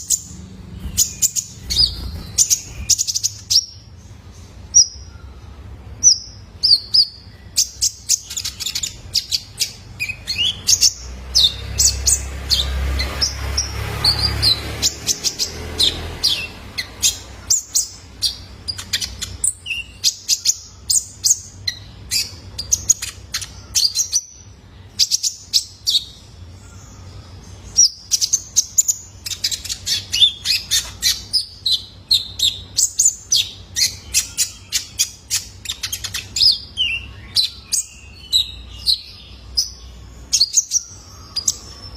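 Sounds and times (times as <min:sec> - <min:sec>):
sunbird chirping and trilling: 0:00.0 - 0:41.9.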